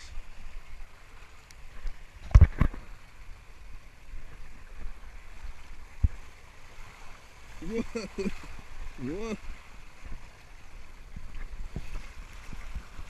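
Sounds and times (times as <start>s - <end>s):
rushing water and air: 0.0s - 13.0s.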